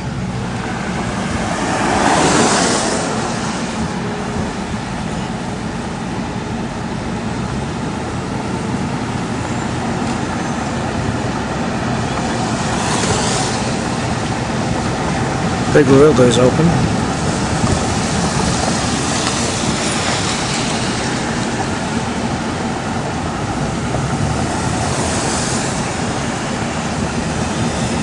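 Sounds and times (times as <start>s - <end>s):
road traffic hum and tyre noise: 0.0s - 28.0s
vehicles passing by: 0.0s - 28.0s.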